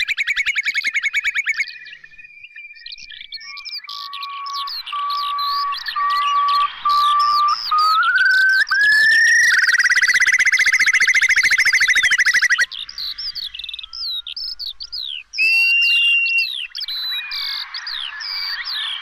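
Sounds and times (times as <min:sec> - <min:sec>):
bird chirps and whistles: 0:00.0 - 0:19.0
bird rippling trill: 0:03.4 - 0:19.0.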